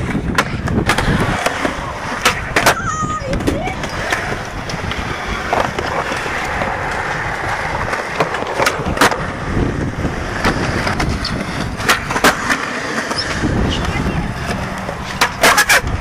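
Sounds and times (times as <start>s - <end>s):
skateboard clacks: 0.0s - 16.0s
skateboard wheels rolling on concrete: 0.0s - 16.0s.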